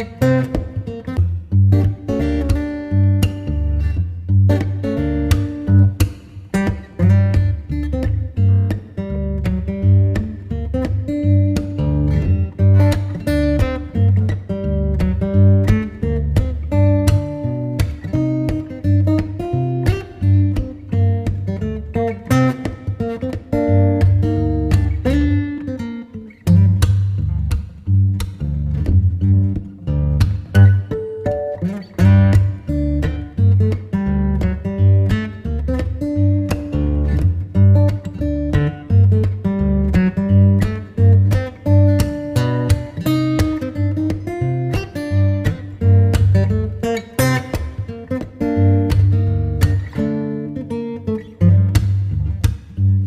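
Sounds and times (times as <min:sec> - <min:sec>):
acoustic guitar plucked and strummed: 0:00.0 - 0:53.0.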